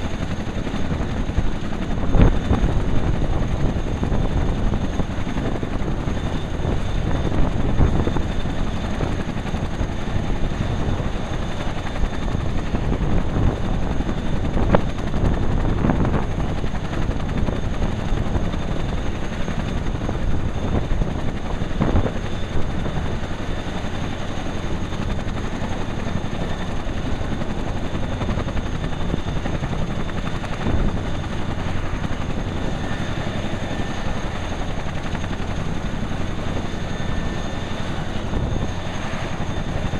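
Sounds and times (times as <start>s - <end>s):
helicopter rotors and engines: 0.0s - 39.9s.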